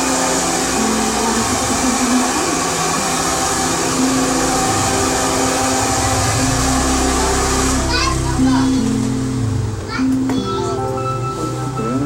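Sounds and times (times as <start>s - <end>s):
hair dryer blowing: 0.0s - 9.8s.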